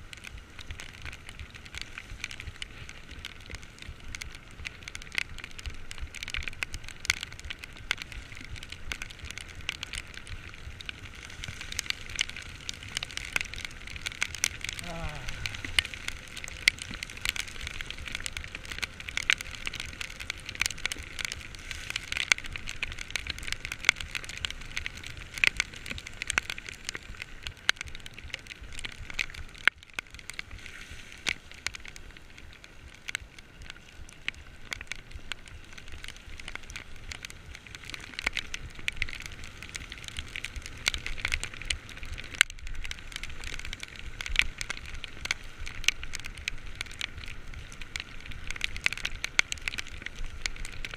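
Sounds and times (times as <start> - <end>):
heavy rain: 0.0 - 50.9
raindrops ticking on microphone: 0.0 - 50.9.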